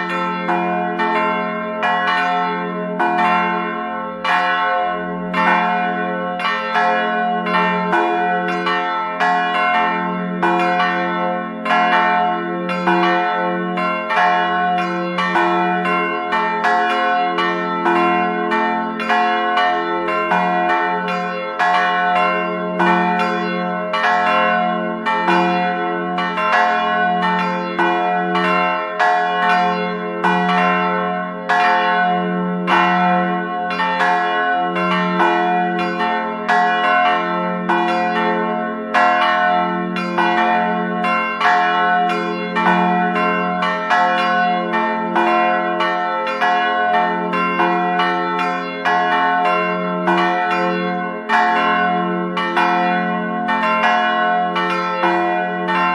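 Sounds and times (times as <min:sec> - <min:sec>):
church bells ringing a peal: 0:00.0 - 0:55.9.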